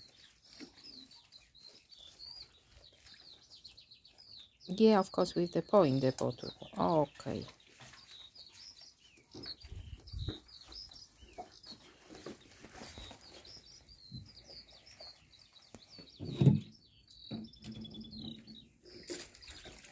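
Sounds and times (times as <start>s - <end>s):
bird trill: 0.0s - 19.9s
small birds chirping: 0.0s - 19.9s.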